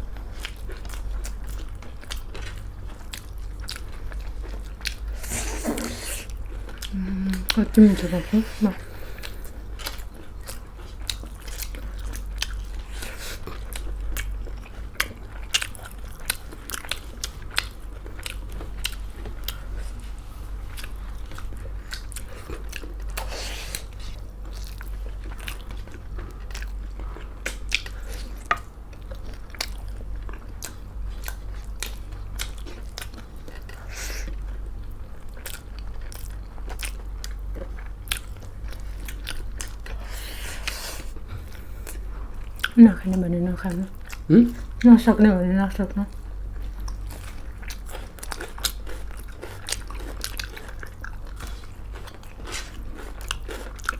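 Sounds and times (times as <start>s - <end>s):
people chewing food: 0.0s - 53.9s.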